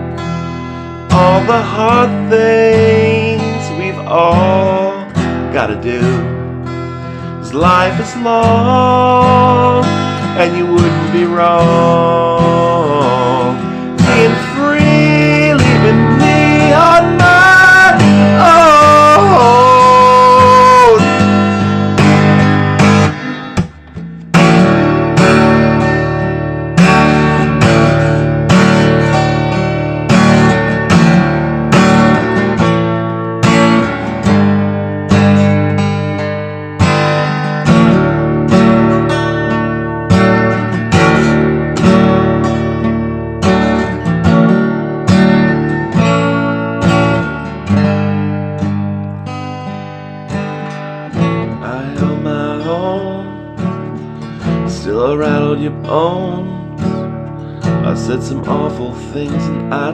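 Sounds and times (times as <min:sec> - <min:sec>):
guitar strumming chords: 0:00.0 - 0:59.9.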